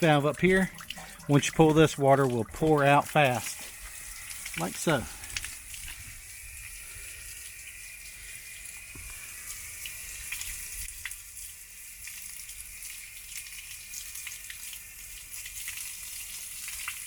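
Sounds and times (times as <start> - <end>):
water pouring out of tank: 0.0 - 17.0.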